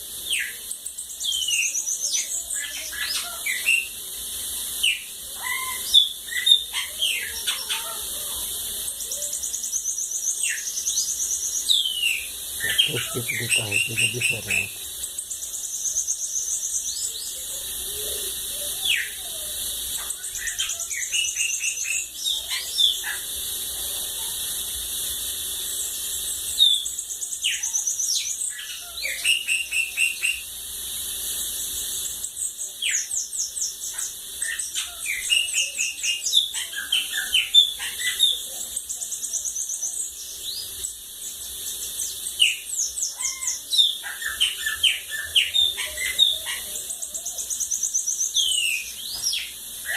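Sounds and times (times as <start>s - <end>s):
steady high hiss: 0.0s - 49.9s
bird twittering trills and chirps: 0.1s - 23.6s, 24.2s - 49.9s.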